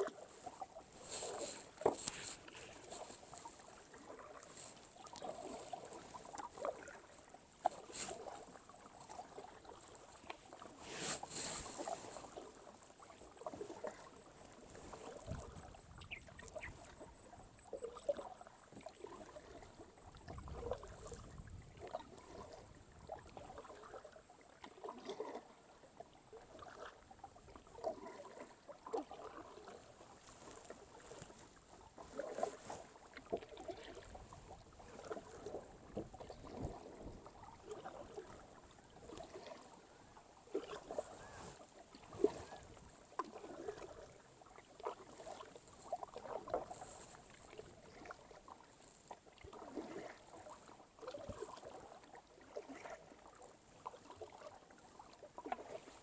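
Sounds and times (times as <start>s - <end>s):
paddle strokes splashing water: 0.0s - 56.0s.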